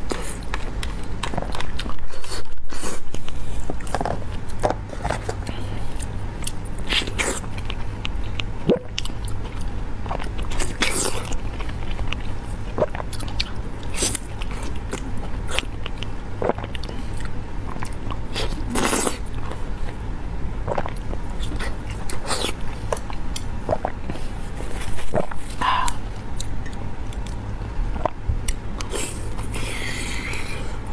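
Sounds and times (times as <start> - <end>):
person chewing wetly: 0.0 - 30.9
steady low hum: 0.0 - 30.9.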